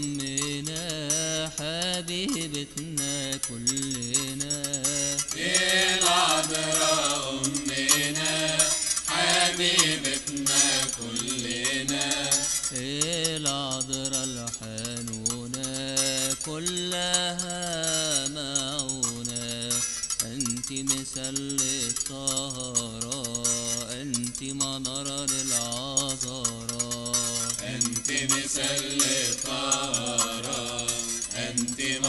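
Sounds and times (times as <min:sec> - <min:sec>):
light percussion: 0:00.0 - 0:32.0.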